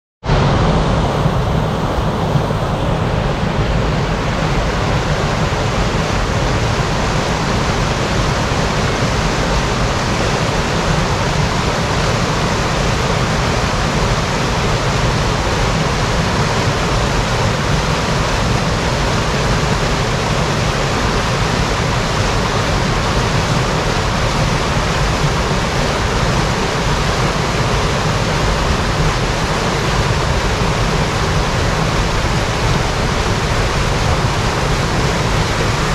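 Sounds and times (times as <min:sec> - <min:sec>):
waterfall rushing: 0:00.3 - 0:35.9.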